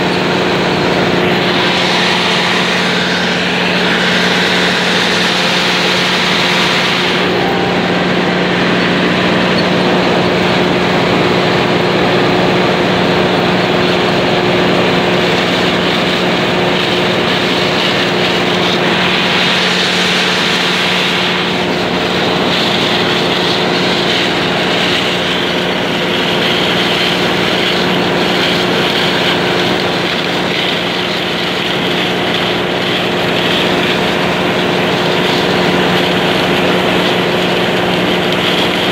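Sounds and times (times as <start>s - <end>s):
combine harvester humming: 0.0s - 38.9s.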